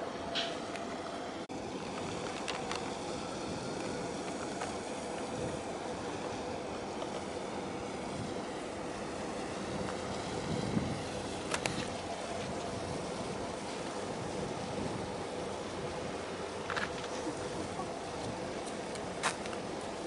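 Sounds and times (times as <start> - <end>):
faint steady hum: 0.0 - 20.0
water noise: 0.0 - 20.0
wind: 0.0 - 20.0.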